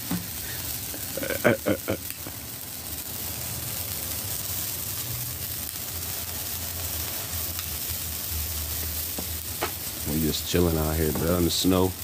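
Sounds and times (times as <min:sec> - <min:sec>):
sparkler hissing: 0:00.0 - 0:12.0.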